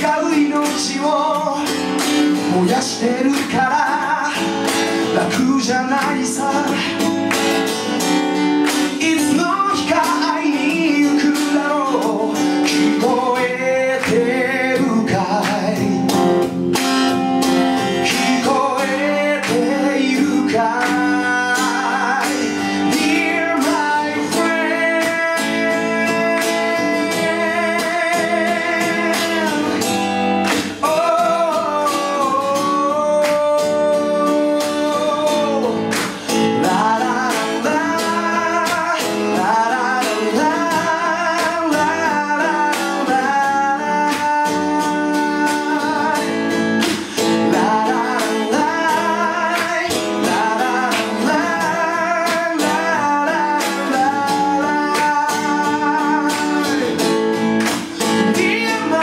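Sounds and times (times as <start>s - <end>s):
man singing a ballad: 0.0s - 7.3s, 8.9s - 17.2s, 17.8s - 59.0s
acoustic guitar strumming: 0.0s - 59.0s.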